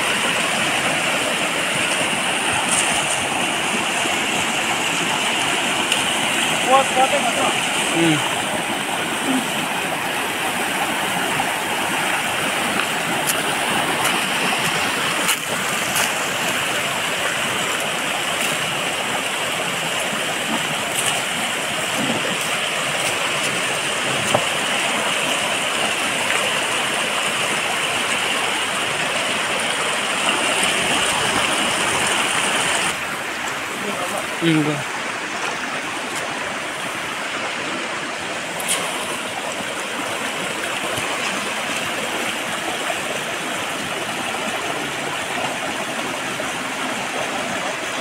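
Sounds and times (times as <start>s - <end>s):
mountain stream rushing over boulders: 0.0s - 48.0s.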